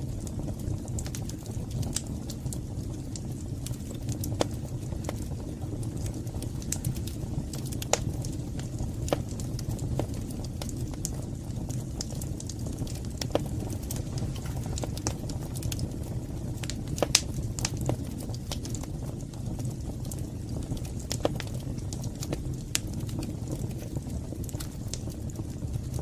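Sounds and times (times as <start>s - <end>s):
fire crackling and popping: 0.0s - 26.0s
wood fire flames rumbling: 0.0s - 26.0s.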